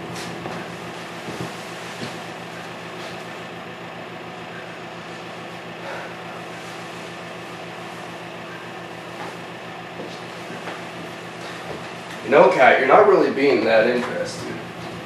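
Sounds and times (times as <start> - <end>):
low mechanical hum with hiss: 0.0 - 15.0.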